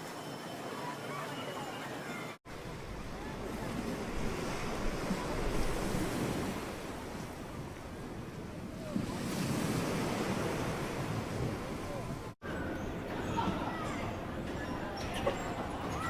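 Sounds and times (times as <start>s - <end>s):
ocean surf on shore: 0.0s - 14.6s
wind: 0.0s - 16.0s.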